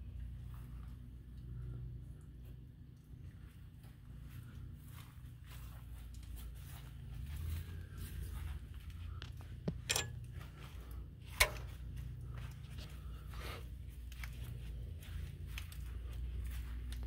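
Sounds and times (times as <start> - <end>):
low rumble: 0.0 - 17.0
footsteps: 2.4 - 17.0.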